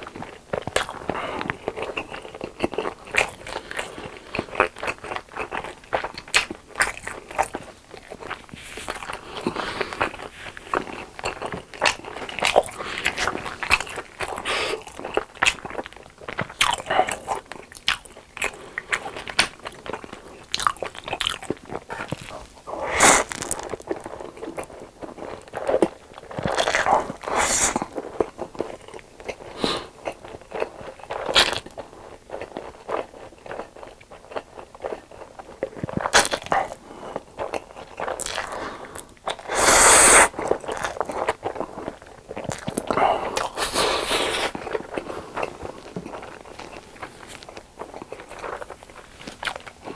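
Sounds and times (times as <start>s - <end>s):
close-miked chewing and crunching: 0.0s - 49.9s.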